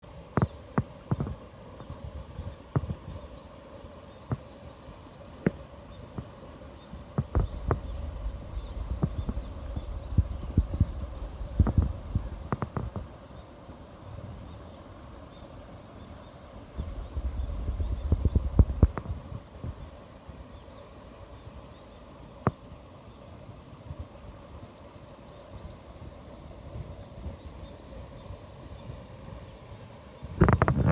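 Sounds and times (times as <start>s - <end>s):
insect drone: 0.0s - 30.9s.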